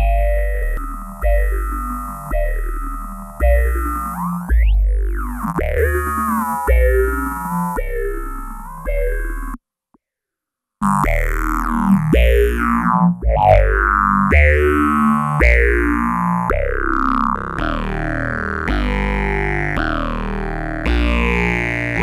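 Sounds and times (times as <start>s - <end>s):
phased synthesizer bass notes: 0.0s - 9.6s, 10.8s - 22.0s.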